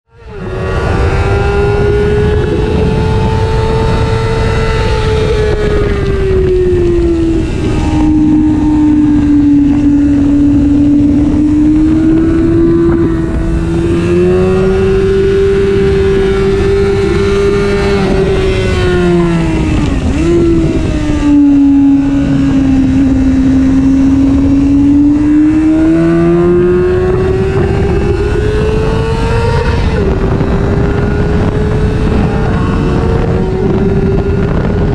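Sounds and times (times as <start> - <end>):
motorcycle engine running hard: 0.1 - 34.9
wind rushing: 0.2 - 34.9.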